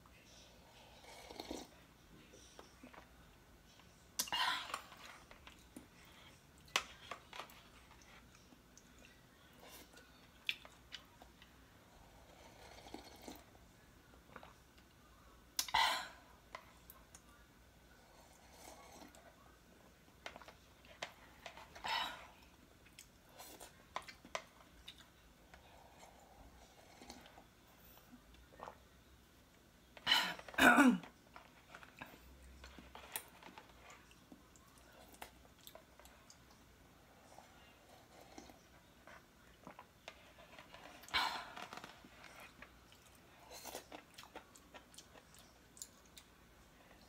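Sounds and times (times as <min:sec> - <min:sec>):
faint chewing: 0:00.2 - 0:15.7, 0:16.5 - 0:47.0.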